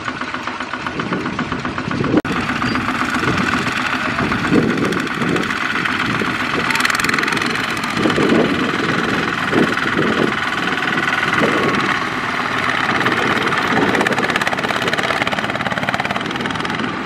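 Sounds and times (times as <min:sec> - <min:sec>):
diesel tractor engine knocking: 0:00.0 - 0:17.0.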